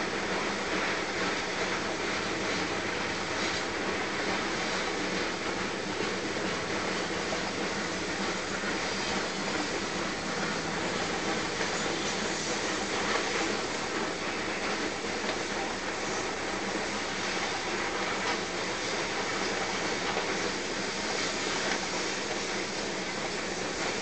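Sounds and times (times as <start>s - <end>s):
freight train wheels rolling on rails: 0.0s - 24.0s.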